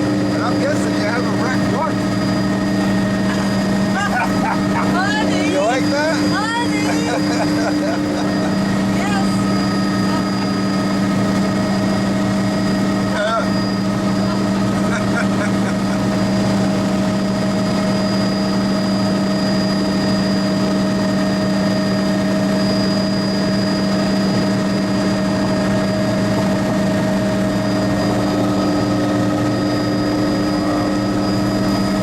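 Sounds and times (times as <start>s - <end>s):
helicopter engine and rotor drone: 0.0s - 32.0s.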